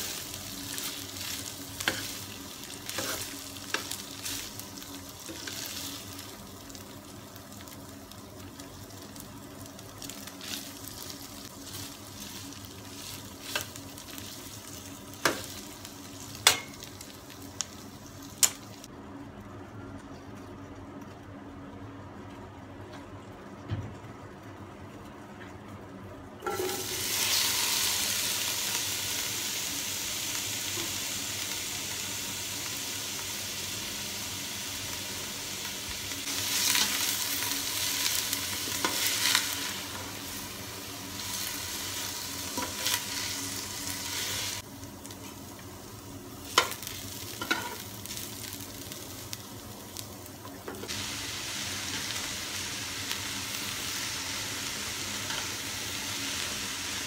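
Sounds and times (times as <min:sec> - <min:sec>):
vegetables sizzling in a pot: 0:00.0 - 0:18.9, 0:26.4 - 0:57.0.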